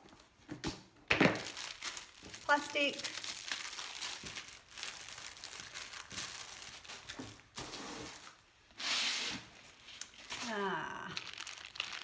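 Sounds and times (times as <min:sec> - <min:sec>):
plastic wrapping crinkling: 0:01.1 - 0:08.5, 0:09.5 - 0:12.0.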